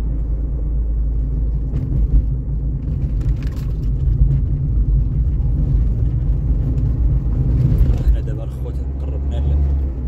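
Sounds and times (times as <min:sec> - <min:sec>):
car driving on road: 0:00.0 - 0:10.0.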